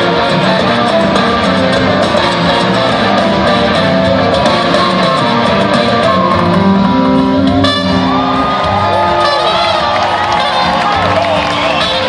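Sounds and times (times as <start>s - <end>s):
live rock band jamming: 0.0s - 12.0s.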